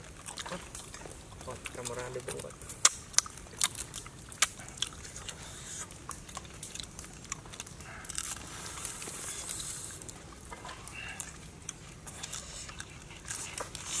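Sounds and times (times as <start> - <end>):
people chewing and lip-smacking: 0.0 - 14.0.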